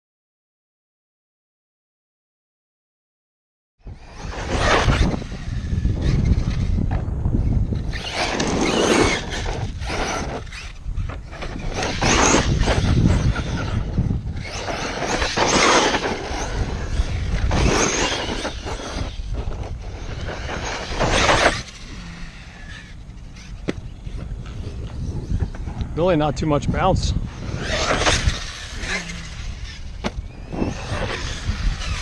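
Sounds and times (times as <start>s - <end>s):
rc truck motor surging: 3.9s - 25.6s, 27.2s - 32.0s.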